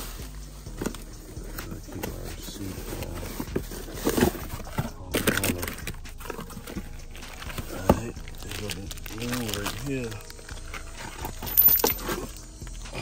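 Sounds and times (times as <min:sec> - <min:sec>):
plastic bag and cardboard rustling: 0:00.0 - 0:12.5.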